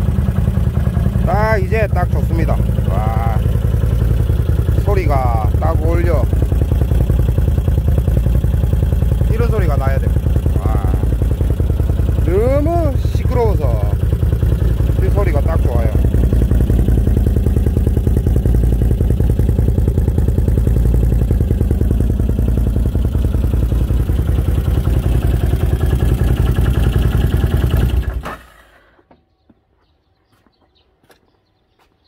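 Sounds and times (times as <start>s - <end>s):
atv engine idling: 0.0s - 28.5s.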